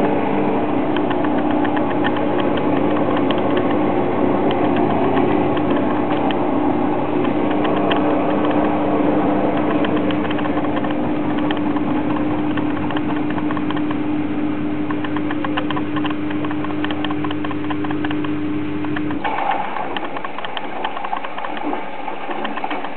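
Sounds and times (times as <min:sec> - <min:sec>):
washing machine motor hum: 0:00.0 - 0:22.9
rattle of quick clicks: 0:00.9 - 0:03.8, 0:04.5 - 0:06.4, 0:07.2 - 0:08.9, 0:09.5 - 0:14.0, 0:14.9 - 0:22.9.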